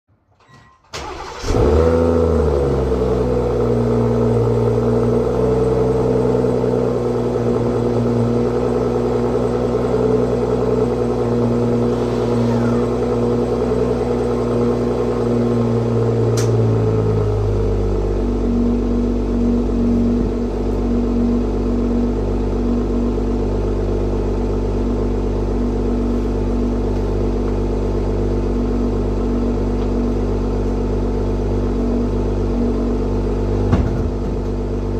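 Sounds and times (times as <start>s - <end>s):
car engine starting and idling: 0.9s - 34.9s.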